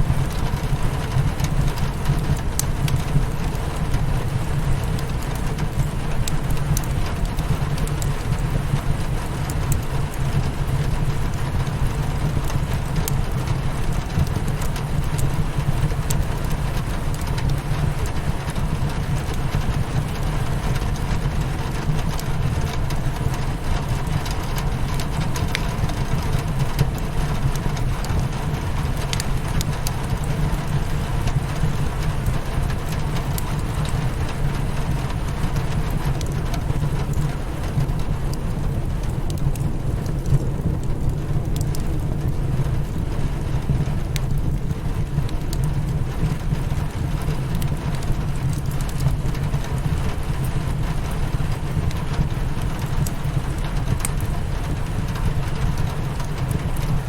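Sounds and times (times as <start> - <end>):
fireplace crackling: 0.0 - 57.0
rain hitting a window: 0.0 - 57.0.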